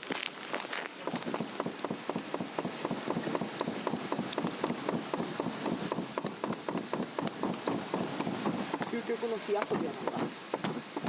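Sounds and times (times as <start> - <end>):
log fire crackling and popping: 0.0 - 11.0
soft hiss of flame: 0.0 - 11.0.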